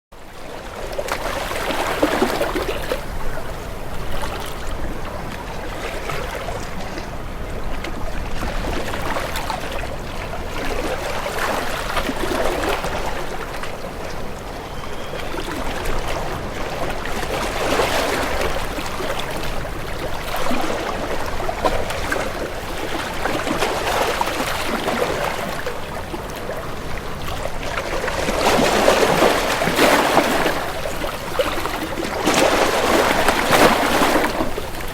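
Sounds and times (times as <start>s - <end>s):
water washing and splashing: 0.9s - 34.9s.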